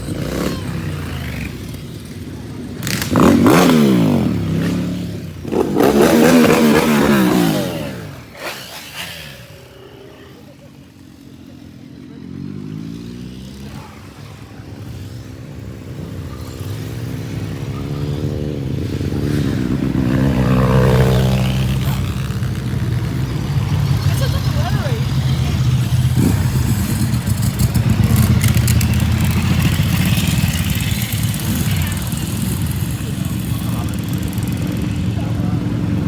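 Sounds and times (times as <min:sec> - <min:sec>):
motorcycles riding past: 0:00.0 - 0:36.0.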